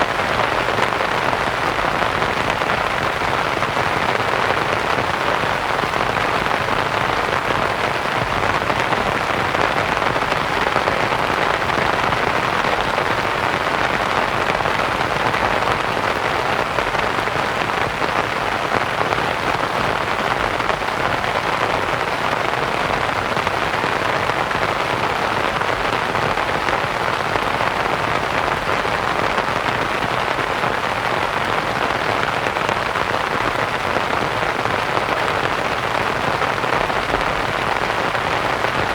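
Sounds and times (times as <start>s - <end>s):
rain pattering on a canvas tent: 0.0s - 38.9s.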